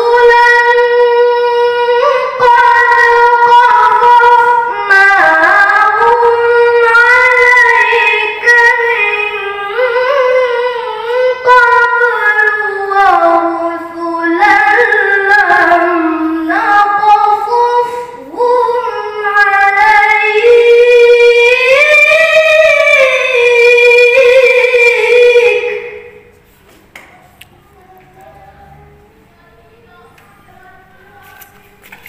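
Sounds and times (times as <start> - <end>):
child chanting into a microphone: 0.0 - 26.3, 27.0 - 32.0.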